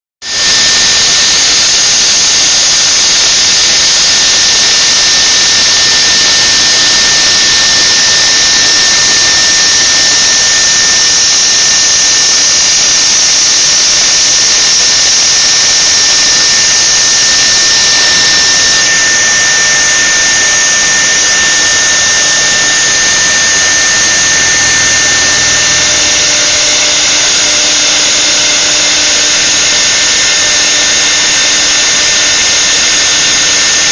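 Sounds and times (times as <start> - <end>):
router spindle high-pitched whine: 0.2 - 33.9.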